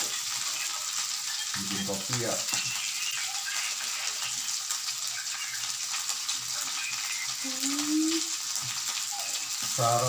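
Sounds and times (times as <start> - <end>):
meat sizzling in a wok: 0.0 - 10.0.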